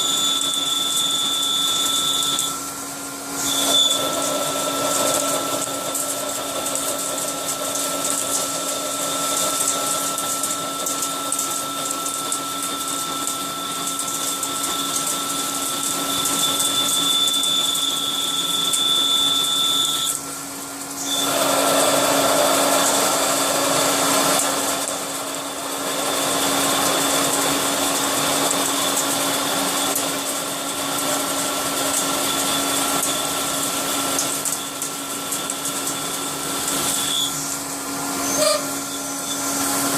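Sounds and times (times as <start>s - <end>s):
loud rough machine noise: 0.0s - 39.9s
milling machine whining: 0.0s - 39.9s.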